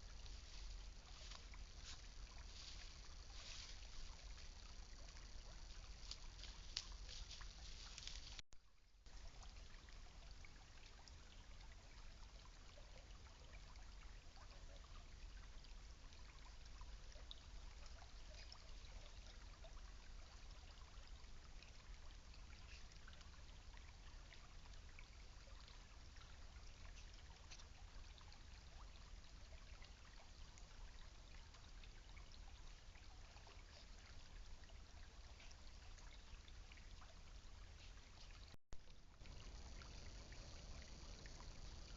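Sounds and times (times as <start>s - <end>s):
creek water trickling: 0.0s - 41.9s
water drips and splashes: 0.0s - 41.9s.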